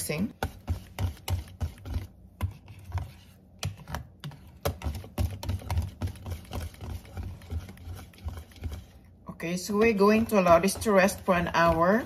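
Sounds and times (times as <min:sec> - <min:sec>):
whisk beating batter in bowl: 0:00.0 - 0:12.0.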